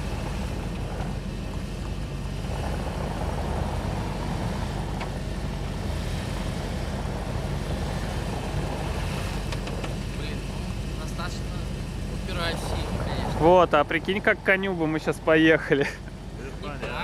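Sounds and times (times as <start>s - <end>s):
suv engine running under load: 0.0s - 17.0s.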